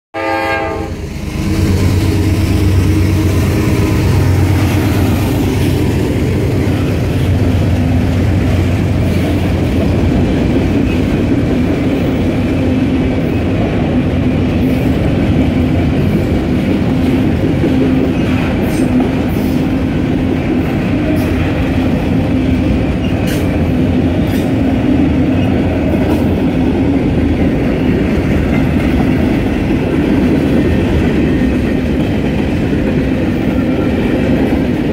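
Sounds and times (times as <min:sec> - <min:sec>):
train wheels rumbling on rail: 0:00.2 - 0:34.9.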